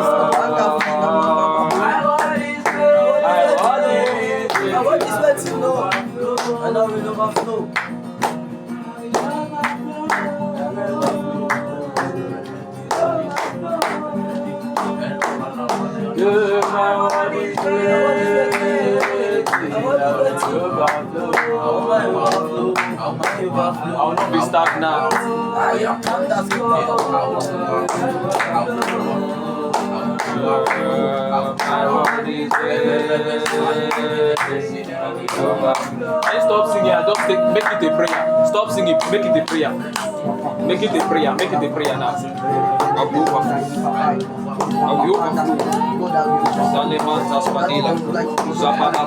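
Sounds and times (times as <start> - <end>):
guitar and keyboard playing: 0.0 - 49.0
voices singing: 0.0 - 49.0.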